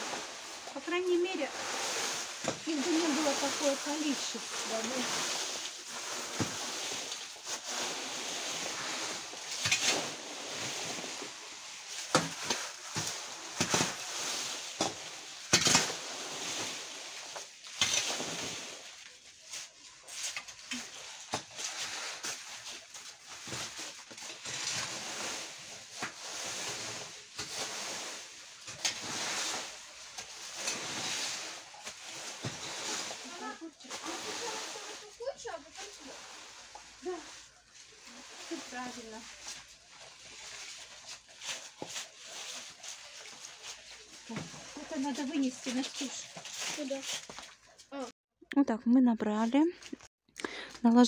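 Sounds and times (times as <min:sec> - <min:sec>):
rakes scraping through leaves: 0:00.0 - 0:48.1.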